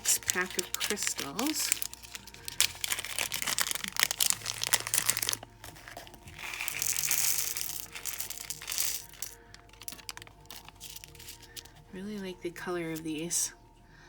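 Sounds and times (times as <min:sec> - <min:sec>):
plastic packaging crinkling: 0:00.0 - 0:11.9
faint background music: 0:00.0 - 0:14.0.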